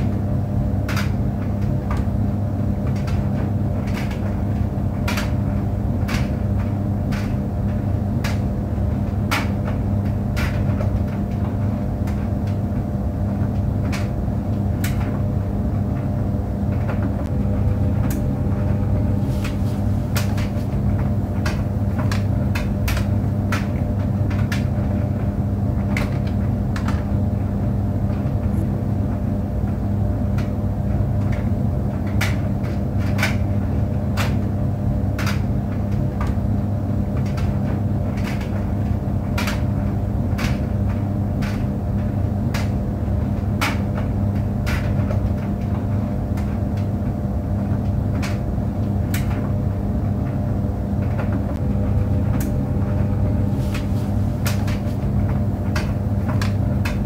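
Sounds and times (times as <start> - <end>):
tumble dryer humming: 0.0 - 57.0.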